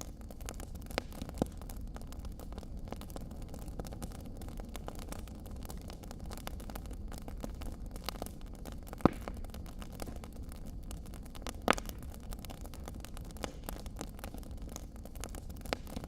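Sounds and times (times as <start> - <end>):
loud sharp fire pops: 0.0 - 16.0
wood fire crackling: 0.0 - 16.0.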